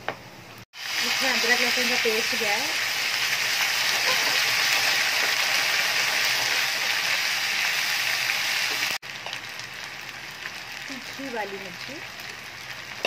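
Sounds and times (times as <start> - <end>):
onions sizzling in hot oil: 0.7 - 13.0.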